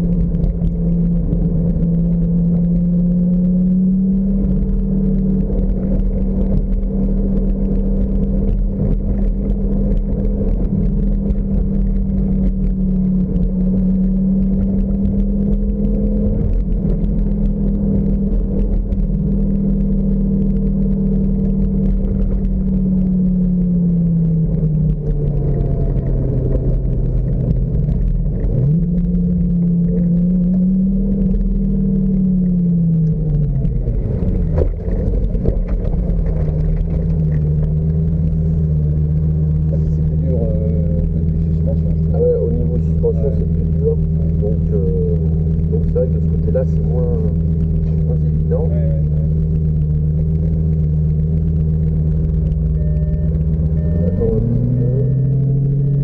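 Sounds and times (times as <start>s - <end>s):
sports car engine: 0.0s - 56.0s.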